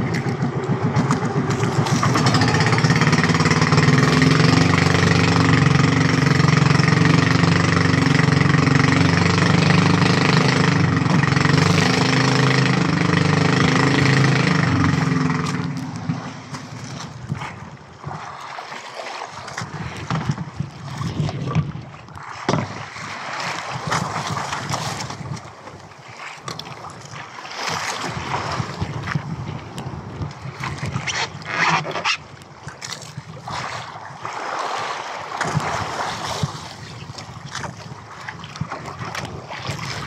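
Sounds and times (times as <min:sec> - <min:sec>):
sea water splashing: 0:00.0 - 0:40.0
wind: 0:00.0 - 0:40.0.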